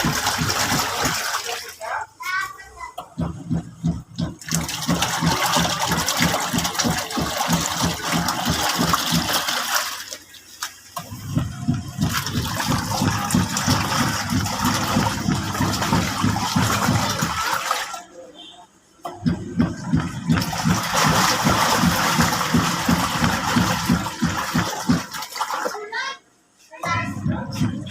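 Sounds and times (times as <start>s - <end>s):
washing machine water churning: 0.0s - 26.2s, 26.8s - 27.9s.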